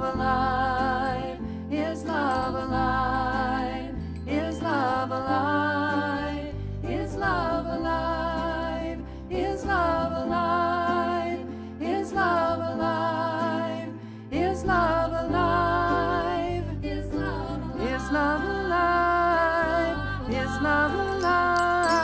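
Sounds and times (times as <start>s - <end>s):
guitar: 0.0s - 22.0s
person singing: 0.0s - 22.0s.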